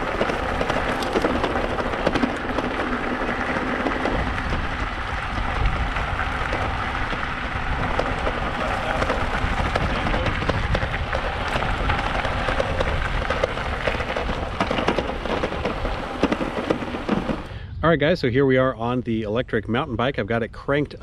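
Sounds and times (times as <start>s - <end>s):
bicycle tyres rolling on gravel: 0.0s - 17.6s.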